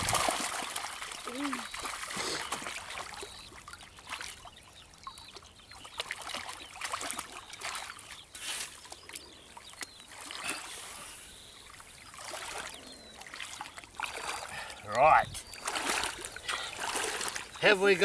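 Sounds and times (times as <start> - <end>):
small sharp splashes: 0.0 - 4.5, 5.2 - 11.0, 11.6 - 14.6, 15.4 - 17.6
shallow water splashing: 0.0 - 18.0.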